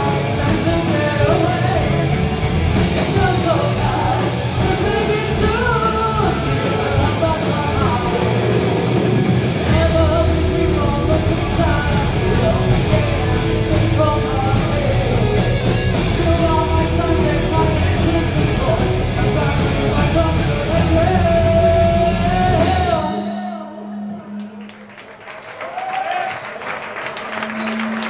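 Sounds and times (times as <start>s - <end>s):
heavy metal band playing: 0.0s - 24.5s.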